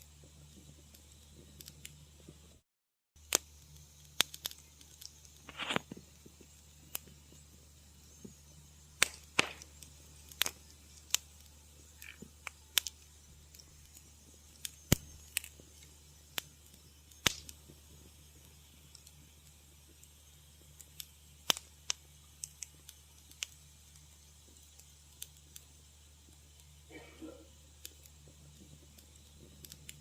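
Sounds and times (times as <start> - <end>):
wood fire crackling: 0.0 - 2.6, 3.2 - 30.0
low steady hum: 3.2 - 30.0.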